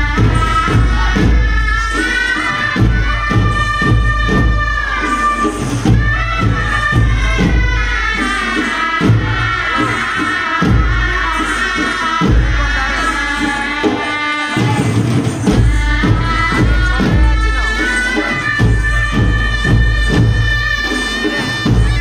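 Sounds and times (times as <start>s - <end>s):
deep drum beats: 0.0s - 22.0s
reed pipe melody: 0.0s - 22.0s.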